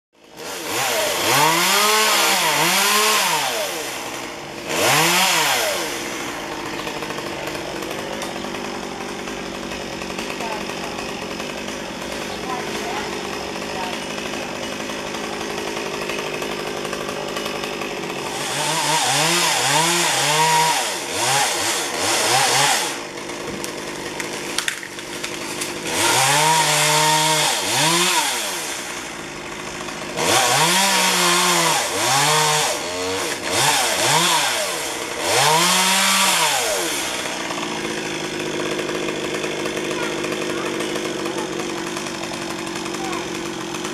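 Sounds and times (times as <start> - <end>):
chainsaw idling and revving: 0.2 - 43.9.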